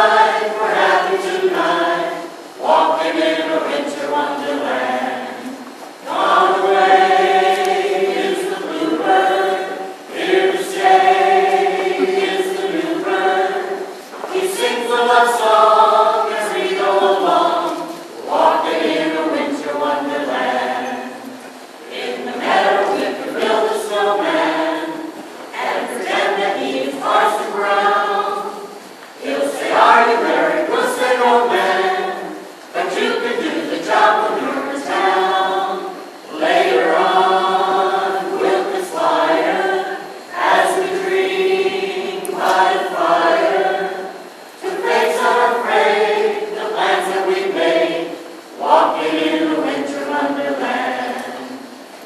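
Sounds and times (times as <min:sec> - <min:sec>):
mixed choir singing in harmony: 0:00.0 - 0:52.0.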